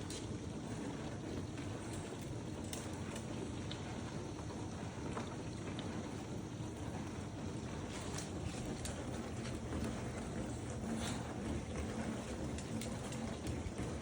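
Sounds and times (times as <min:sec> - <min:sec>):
dishwasher pump rumbling: 0:00.0 - 0:14.0
water spraying and sloshing: 0:00.0 - 0:14.0.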